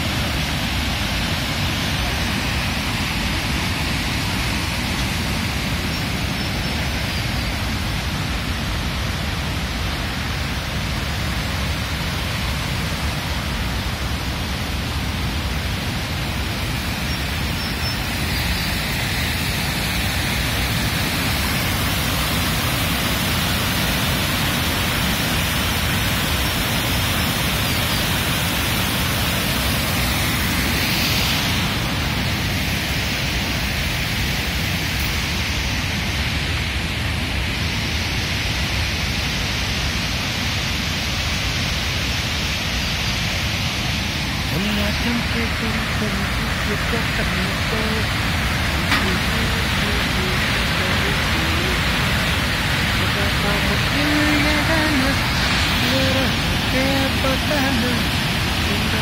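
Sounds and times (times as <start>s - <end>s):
waterfall pouring over boulders: 0.0s - 59.0s.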